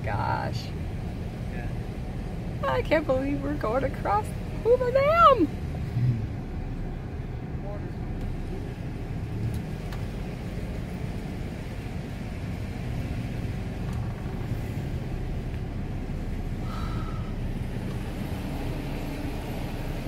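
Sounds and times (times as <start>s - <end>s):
truck engine and tyre rumble: 0.0s - 20.0s.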